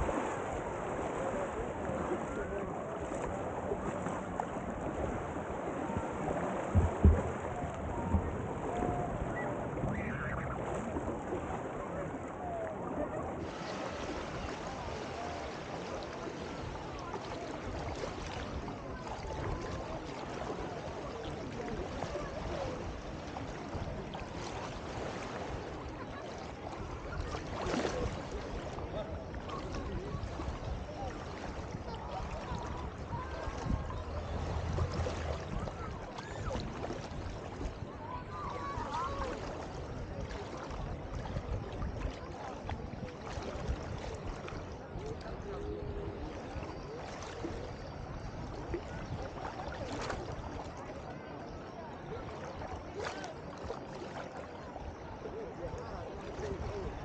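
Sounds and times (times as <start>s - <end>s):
distant voices of people: 0.0s - 57.0s
sea water washing at shoreline: 0.0s - 57.0s.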